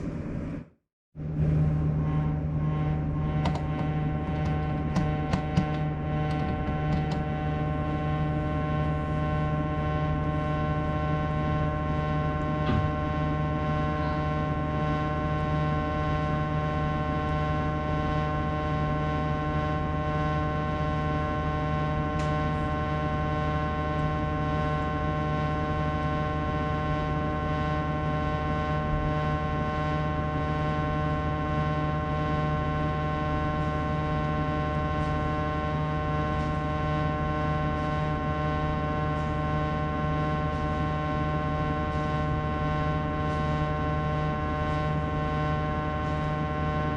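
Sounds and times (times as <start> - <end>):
air conditioner droning: 0.0 - 46.9.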